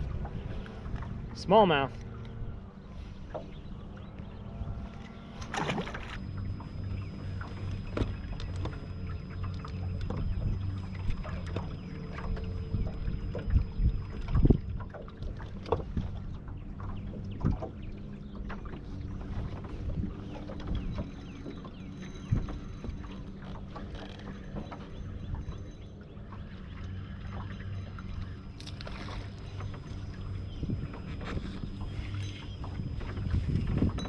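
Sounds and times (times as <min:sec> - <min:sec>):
steady low hum: 0:00.0 - 0:34.0
waves slapping against hull: 0:00.0 - 0:34.0.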